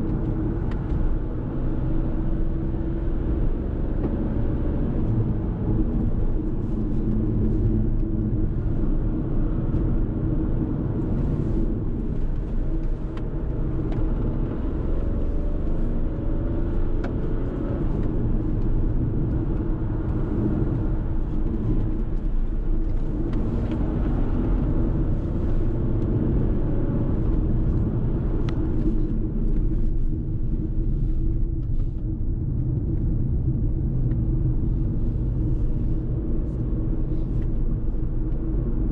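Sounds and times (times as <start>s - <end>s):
car engine running: 0.0s - 38.9s
road and tyre noise: 0.0s - 38.9s.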